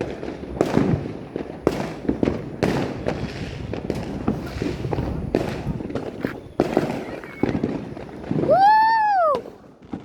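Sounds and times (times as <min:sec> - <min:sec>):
fireworks bangs: 0:00.0 - 0:10.0
fireworks pops and crackles: 0:00.0 - 0:10.0.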